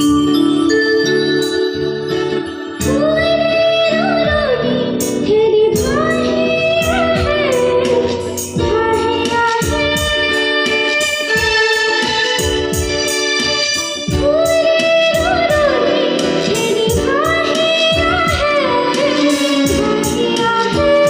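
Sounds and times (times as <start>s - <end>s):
light percussive beat: 0.0s - 0.6s, 4.2s - 21.0s
keyboard chords: 0.0s - 21.0s
girl singing: 2.1s - 12.5s, 14.0s - 21.0s.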